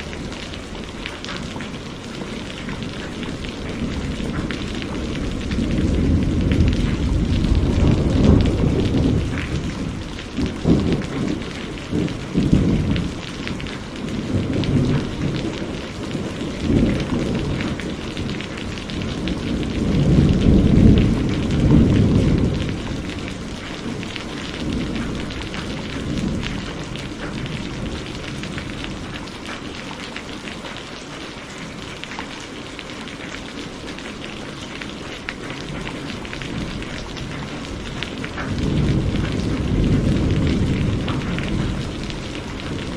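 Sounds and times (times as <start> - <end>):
rolling thunder: 0.0 - 29.2, 35.5 - 42.9
heavy rain: 0.0 - 42.9.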